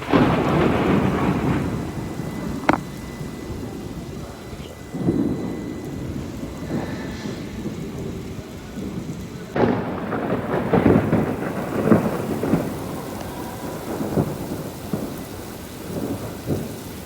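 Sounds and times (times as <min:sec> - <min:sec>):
steady rain falling: 0:00.0 - 0:17.0
thunder clap rumbling: 0:00.0 - 0:17.0.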